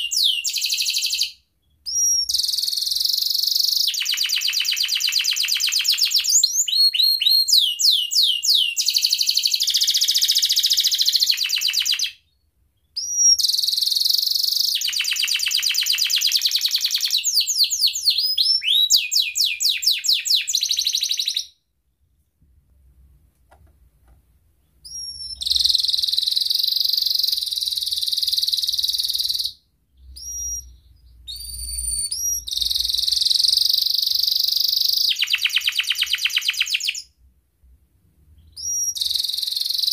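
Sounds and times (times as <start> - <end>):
canary singing trills: 0.0 - 21.6, 24.6 - 37.2, 38.4 - 39.9.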